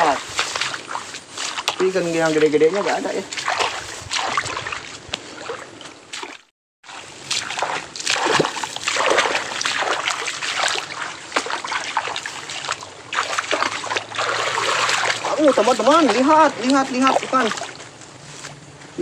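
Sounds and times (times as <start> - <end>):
muddy water splashing: 0.0 - 19.0.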